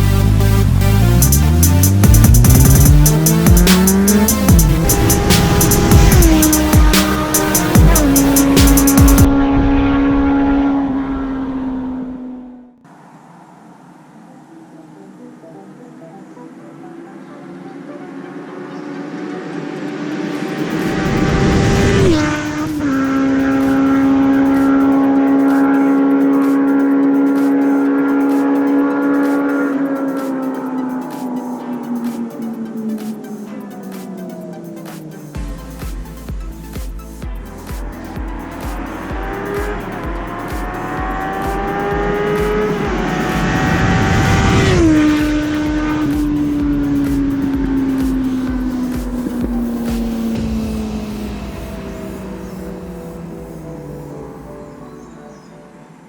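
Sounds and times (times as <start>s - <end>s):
motorcycle engine howling: 0.0s - 35.7s, 37.3s - 56.0s.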